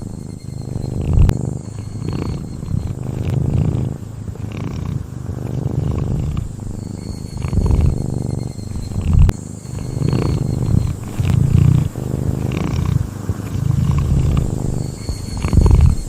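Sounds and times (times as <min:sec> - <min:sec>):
cat snoring: 0:00.0 - 0:16.0.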